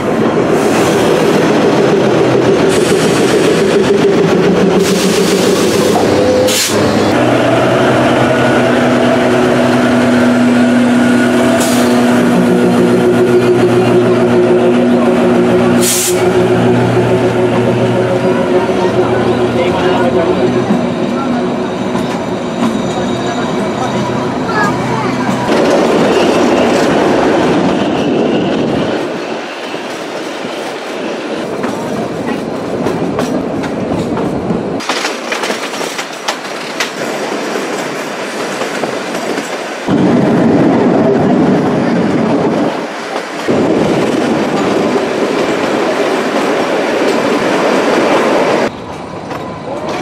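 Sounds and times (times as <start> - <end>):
train wheels clattering on rails: 0.0 - 24.0, 24.6 - 50.0.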